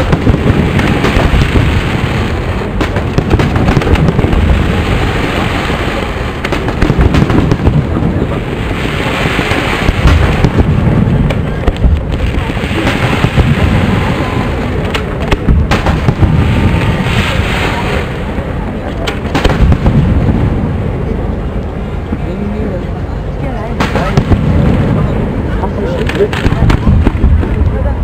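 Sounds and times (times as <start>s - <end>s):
fireworks bangs and pops: 0.0s - 20.8s, 23.8s - 28.0s.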